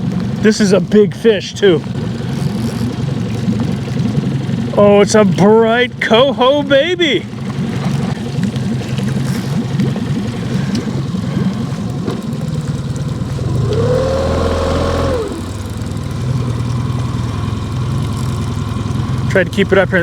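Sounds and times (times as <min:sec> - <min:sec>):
boat motor idling: 0:00.0 - 0:20.0.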